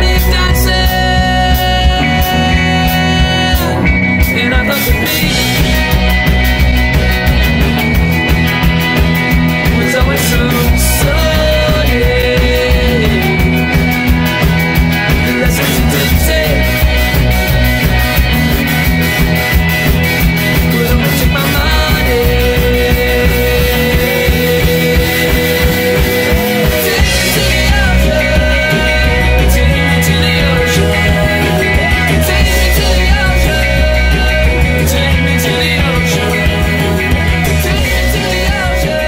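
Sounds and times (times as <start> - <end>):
rock music: 0.0 - 39.0.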